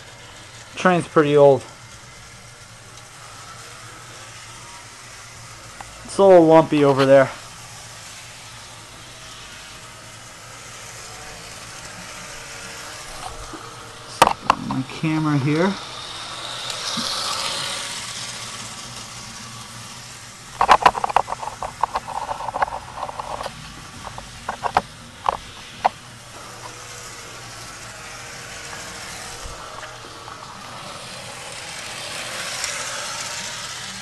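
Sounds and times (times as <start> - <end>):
model train whirring: 0.0 - 34.0
wheels clicking over track: 0.0 - 34.0.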